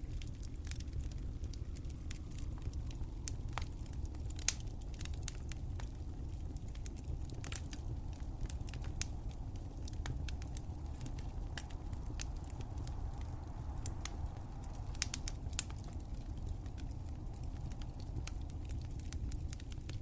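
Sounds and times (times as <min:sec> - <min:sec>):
fire pops and snaps: 0:00.0 - 0:20.0
low rumble of burning: 0:00.0 - 0:20.0
wood fire crackling: 0:00.0 - 0:20.0.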